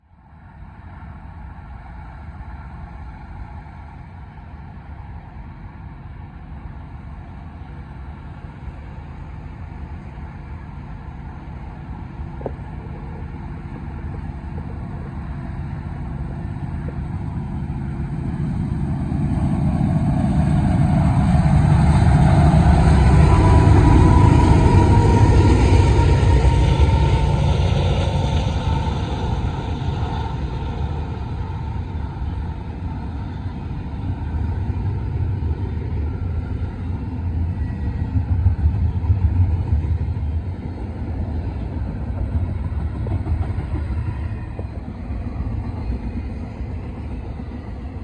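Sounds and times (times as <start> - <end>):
diesel locomotive engine rumble: 0.0 - 48.0.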